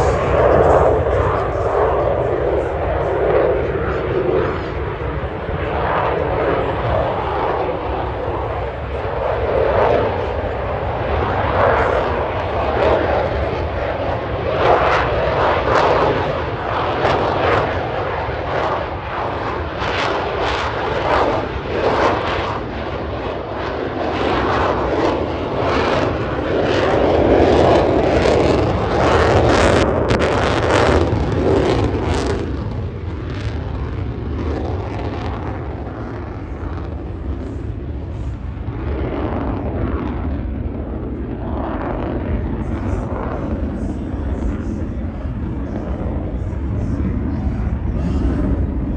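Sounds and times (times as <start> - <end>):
jet engine roar with crackling: 0.0 - 48.9.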